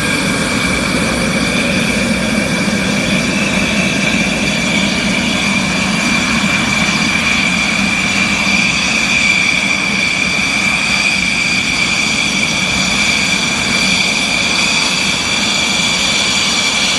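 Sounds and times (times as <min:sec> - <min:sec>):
fighter jet engines running: 0:00.0 - 0:16.9.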